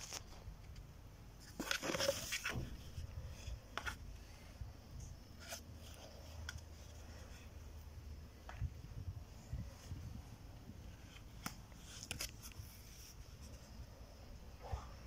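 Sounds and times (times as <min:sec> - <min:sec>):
rustling: 0:00.0 - 0:14.8.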